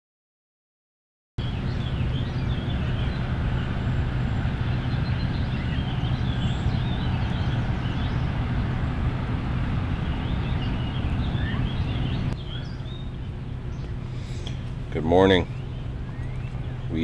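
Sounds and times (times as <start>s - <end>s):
low engine-like hum: 1.4s - 17.0s
small birds chirping: 1.4s - 17.0s.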